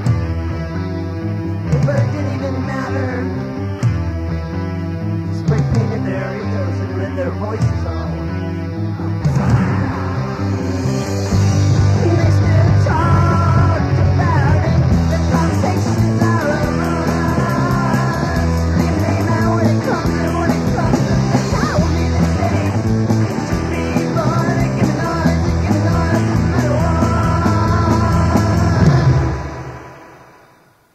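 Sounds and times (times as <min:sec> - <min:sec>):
punk rock band playing: 0:00.0 - 0:30.6
yelled vocals: 0:05.1 - 0:30.2.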